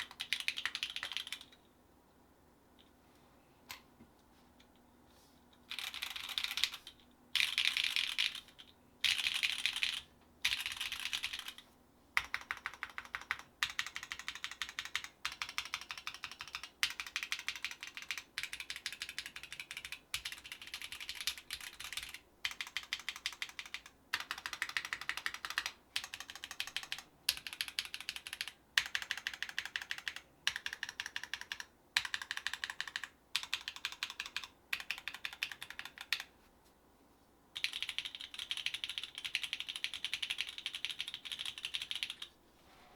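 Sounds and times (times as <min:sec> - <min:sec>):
mechanical keyboard typing: 0:00.0 - 0:01.6, 0:05.7 - 0:11.6, 0:12.2 - 0:36.3, 0:37.6 - 0:42.3.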